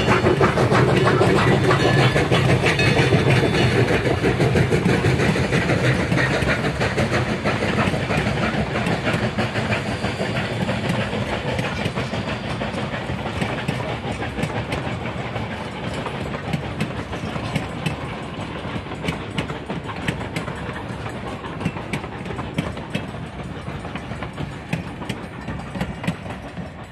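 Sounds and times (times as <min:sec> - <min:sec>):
train wheels rumbling on rail: 0:00.0 - 0:26.9
wheels clicking over rail joints: 0:00.0 - 0:26.9.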